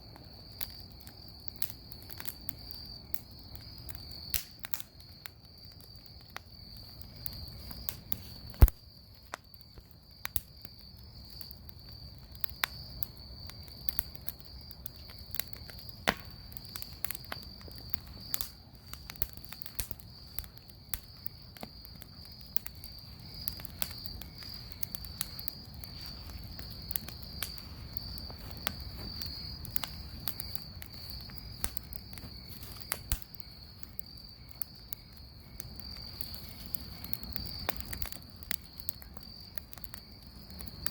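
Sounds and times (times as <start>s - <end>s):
bonfire crackling and popping: 0.0s - 40.9s
insect chorus: 0.0s - 40.9s.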